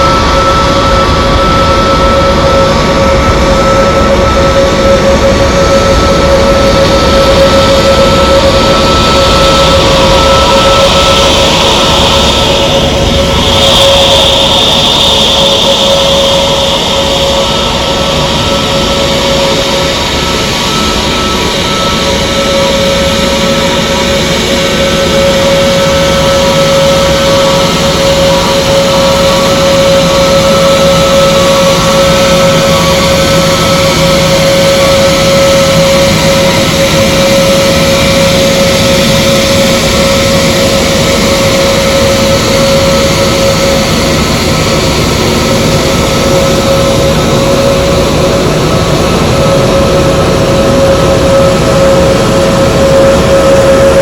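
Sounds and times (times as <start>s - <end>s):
aircraft engines whining: 0.0s - 54.0s.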